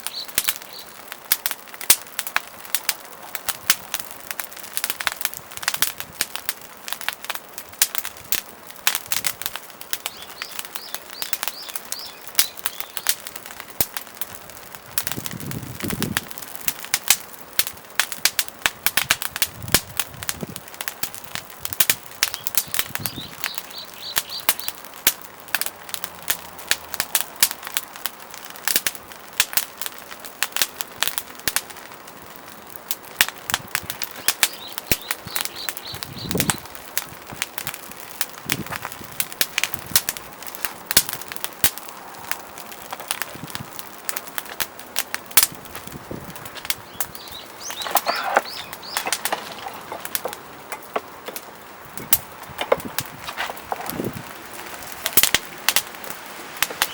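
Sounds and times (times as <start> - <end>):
firewood crackling and popping: 0.0 - 56.9.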